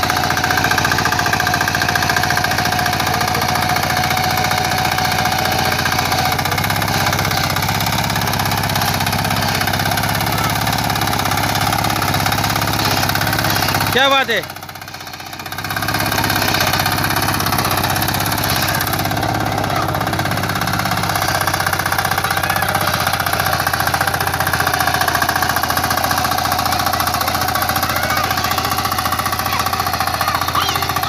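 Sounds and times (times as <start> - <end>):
small engine running: 0.0 - 31.0
tines churning soil: 0.0 - 31.0.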